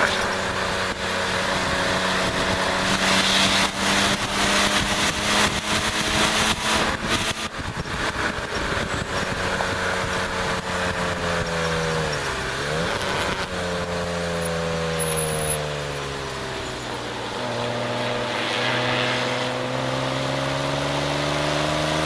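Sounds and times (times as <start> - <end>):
car engine running hard: 0.0 - 22.0
wind and road noise: 0.0 - 22.0.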